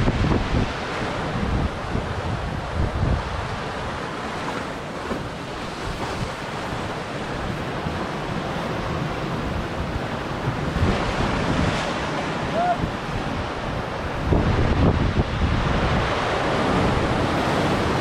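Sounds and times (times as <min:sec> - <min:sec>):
surf breaking on rocks: 0:00.0 - 0:18.0
wind buffeting microphone: 0:00.0 - 0:18.0.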